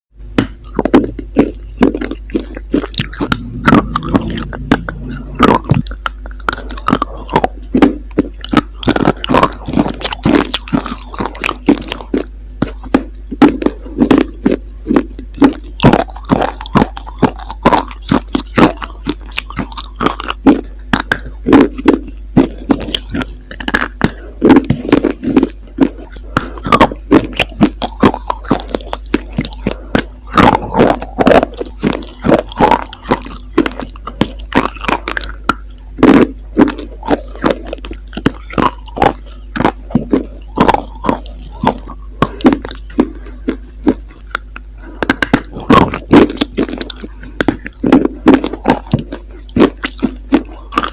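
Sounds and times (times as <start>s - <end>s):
steady low hum: 0.2s - 50.9s
chewing brittle material: 0.4s - 50.9s.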